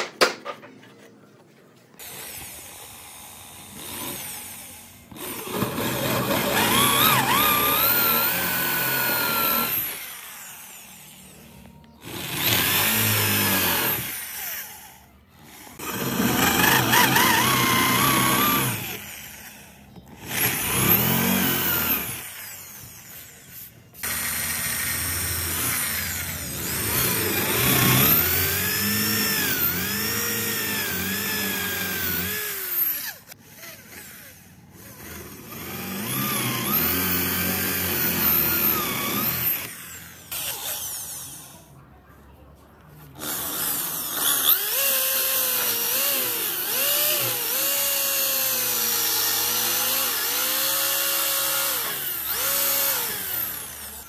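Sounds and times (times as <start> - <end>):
electric drill boring into wood: 2.0 - 41.7, 43.2 - 54.0.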